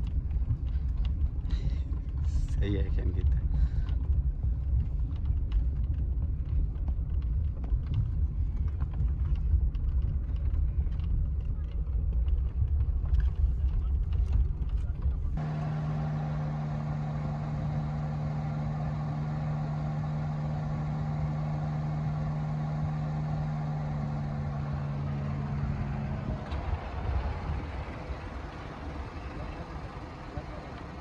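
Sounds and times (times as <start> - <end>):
car engine low rumble outside: 0.0 - 31.0
car engine drone inside cabin: 0.1 - 31.0.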